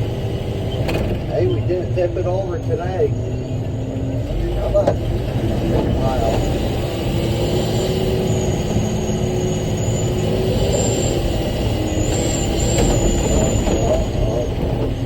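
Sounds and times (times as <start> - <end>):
diesel engine rumbling: 0.0 - 15.0
high whine: 0.0 - 15.0.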